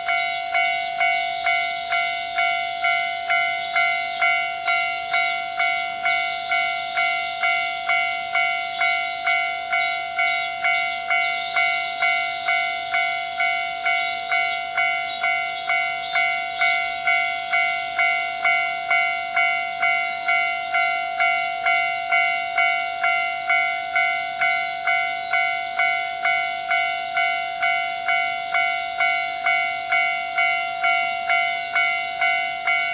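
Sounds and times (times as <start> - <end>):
electronic crossing bell dinging: 0.0 - 32.9.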